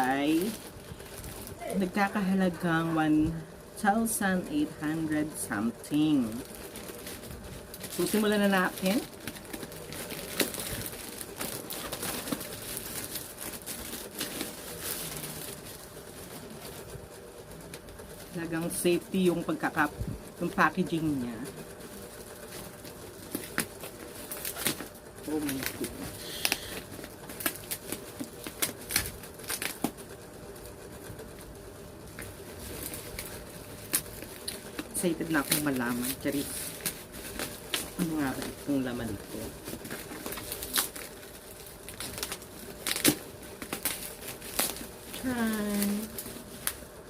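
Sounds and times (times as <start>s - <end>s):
packaging rustling: 0.0s - 2.4s, 5.6s - 47.0s
plastic wrapping crinkling: 0.0s - 3.2s, 3.8s - 47.0s.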